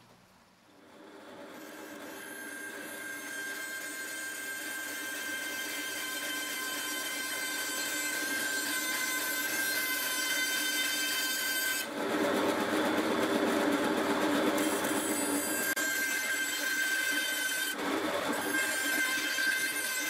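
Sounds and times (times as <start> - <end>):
bandsaw cutting wood: 1.3 - 20.0.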